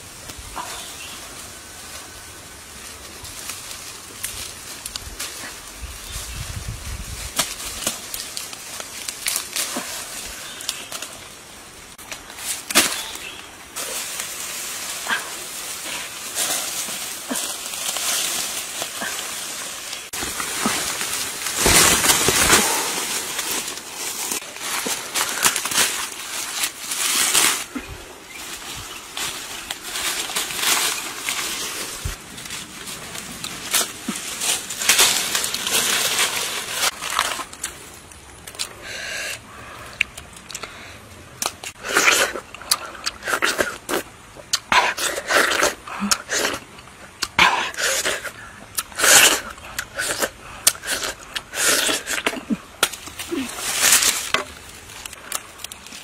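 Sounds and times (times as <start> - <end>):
leaves and twigs rustling: 0.0 - 56.0.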